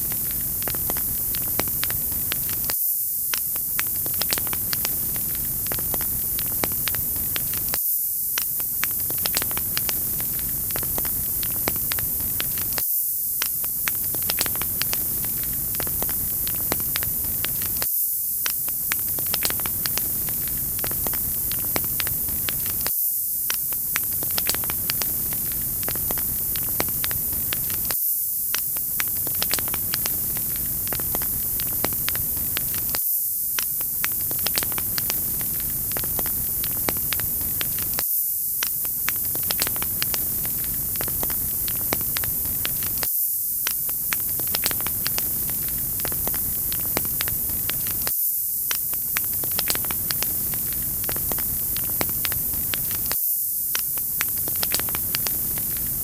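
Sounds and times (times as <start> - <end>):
wood fire crackling: 0.0 - 2.7, 3.3 - 7.8, 8.6 - 12.8, 13.4 - 22.9, 23.5 - 33.0, 33.6 - 38.0, 38.6 - 48.1, 48.7 - 53.2, 53.8 - 56.0.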